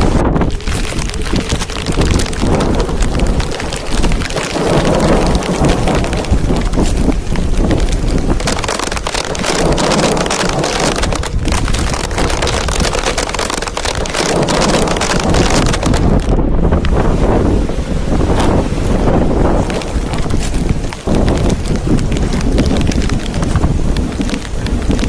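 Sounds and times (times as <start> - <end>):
heavy rain patter: 0.0 - 25.0
wind rumbling on microphone: 0.0 - 25.0.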